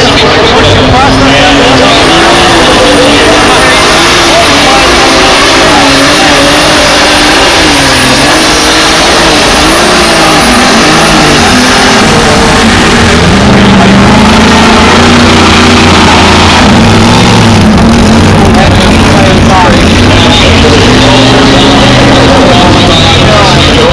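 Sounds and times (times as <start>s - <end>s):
tractor engine at high revs: 0.0s - 23.9s.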